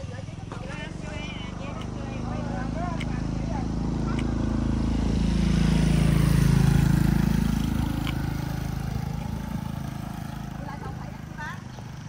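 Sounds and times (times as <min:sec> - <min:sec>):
engine passing by: 0:00.0 - 0:12.0.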